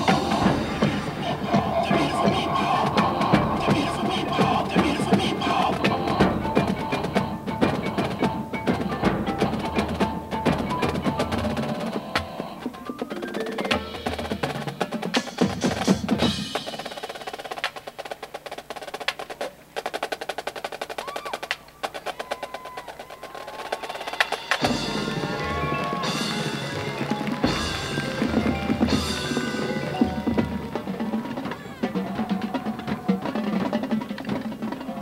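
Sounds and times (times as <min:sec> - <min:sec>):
drumline playing: 0:00.0 - 0:35.0
marching band playing: 0:00.0 - 0:35.0.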